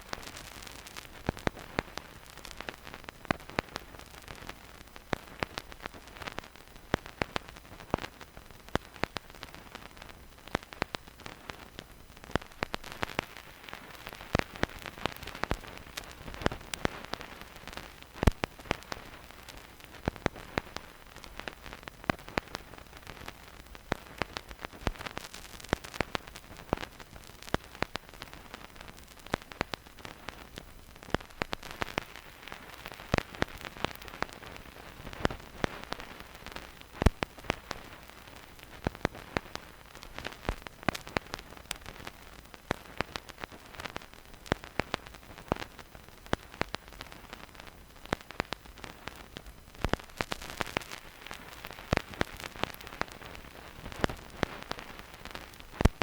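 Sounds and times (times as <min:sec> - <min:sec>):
faint steady hiss: 0:00.0 - 0:56.0
vinyl record crackles and pops: 0:00.0 - 0:56.0.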